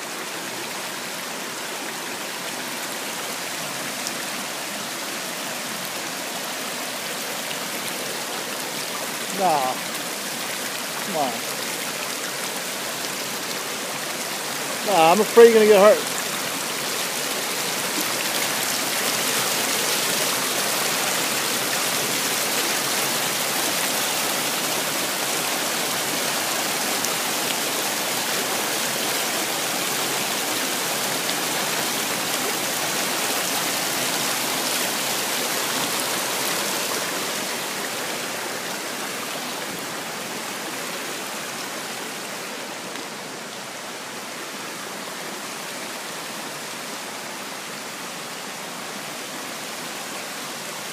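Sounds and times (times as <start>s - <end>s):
creek water rushing over rocks: 0.0s - 50.9s.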